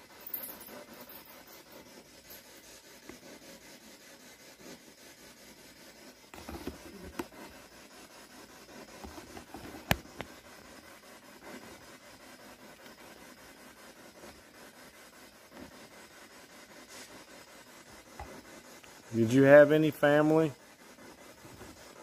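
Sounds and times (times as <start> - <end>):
faint hiss: 0.0 - 22.0.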